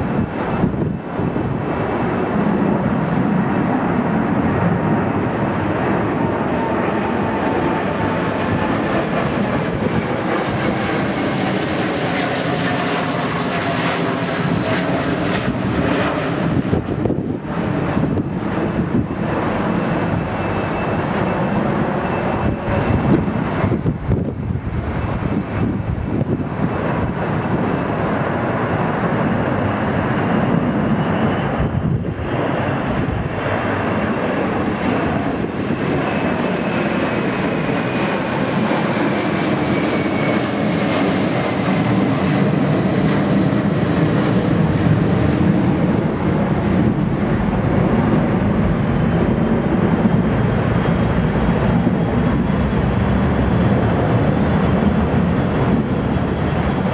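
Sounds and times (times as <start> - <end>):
high engine whine: 0.0 - 56.9
jet airliner engines: 0.0 - 56.9.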